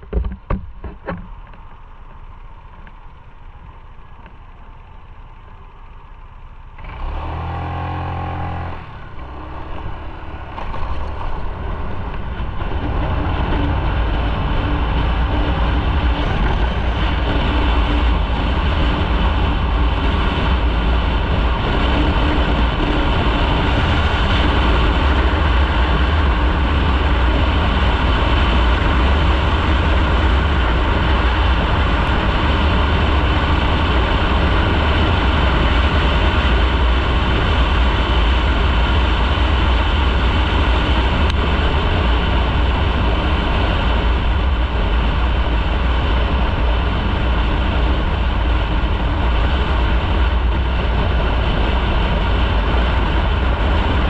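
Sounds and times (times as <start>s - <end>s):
motorcycle engine riding: 0.0s - 54.0s.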